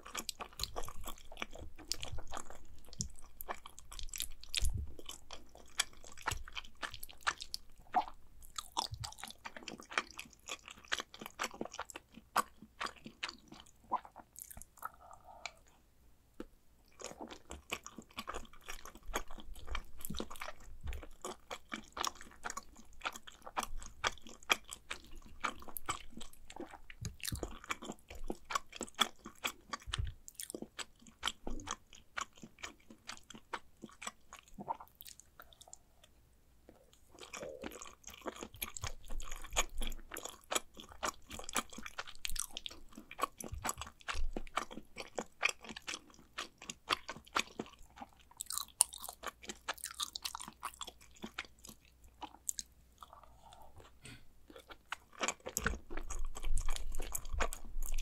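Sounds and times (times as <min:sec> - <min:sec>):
person chewing food: 0:00.0 - 0:15.8, 0:16.4 - 0:58.0.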